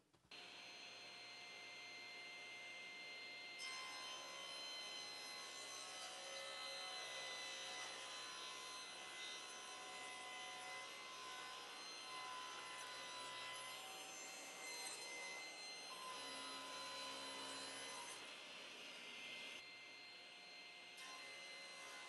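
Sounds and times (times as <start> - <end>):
faint table saw cutting wood: 0.4 - 22.0.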